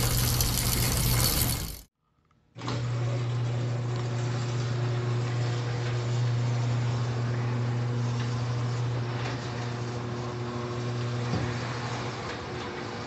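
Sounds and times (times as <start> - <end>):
garage door opener motor hum: 2.5 - 13.0.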